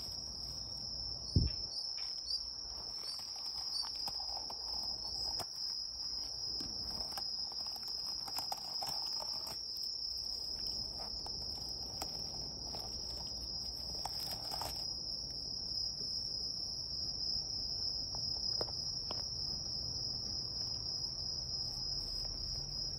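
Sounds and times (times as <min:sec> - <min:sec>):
night insects trilling: 0:00.0 - 0:22.9.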